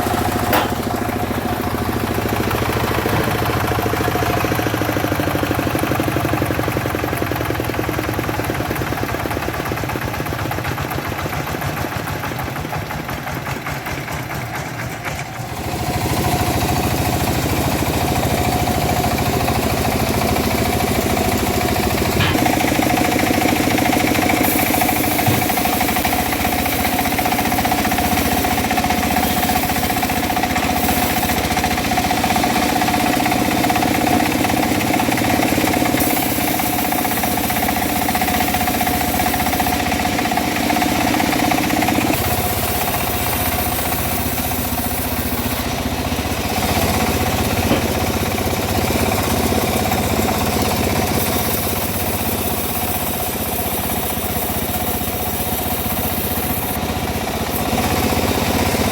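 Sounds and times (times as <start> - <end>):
bandsaw mill engine running: 0.0 - 58.9.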